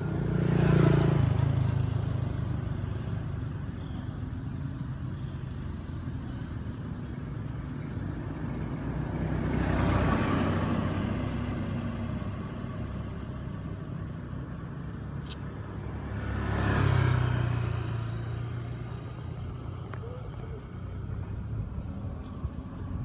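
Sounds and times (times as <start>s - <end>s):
road vehicles passing by: 0.0s - 23.0s.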